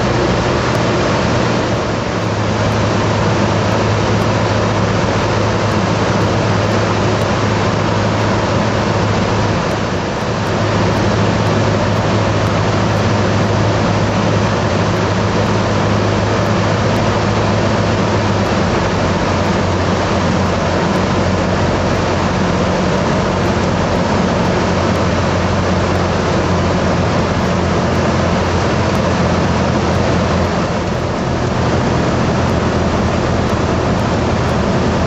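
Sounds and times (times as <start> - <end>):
propeller airplane engine droning: 0.0 - 35.0.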